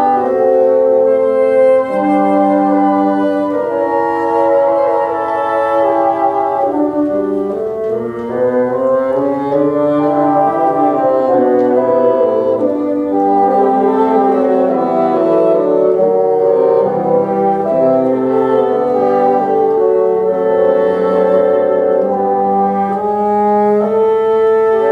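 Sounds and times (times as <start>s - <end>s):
bassoon ensemble playing: 0.0s - 24.9s.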